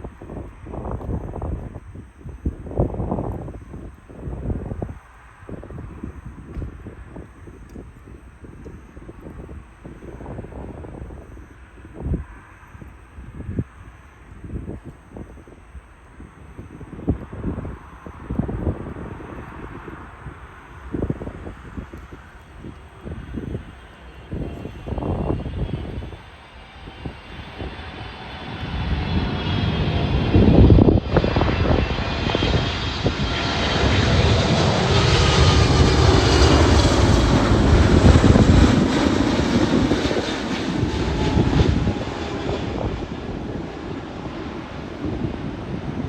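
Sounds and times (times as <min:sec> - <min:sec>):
jet airliner passing by: 0:00.0 - 0:46.0.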